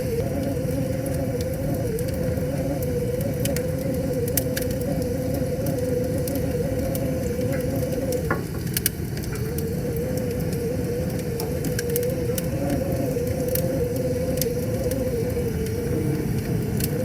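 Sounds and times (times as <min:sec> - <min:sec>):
wavering hum: 0:00.0 - 0:17.0
wood fire crackling: 0:00.0 - 0:17.0.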